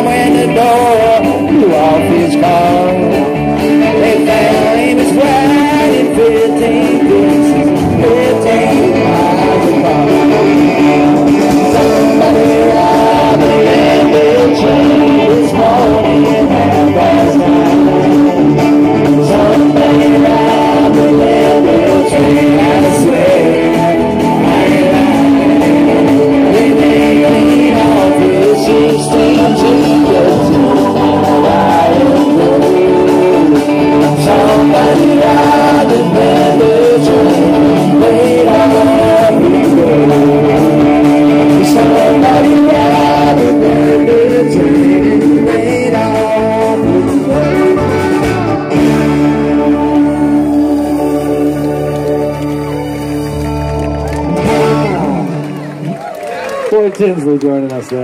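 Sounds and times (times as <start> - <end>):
strummed acoustic guitars: 0.0 - 55.9
electric guitar: 0.0 - 58.0.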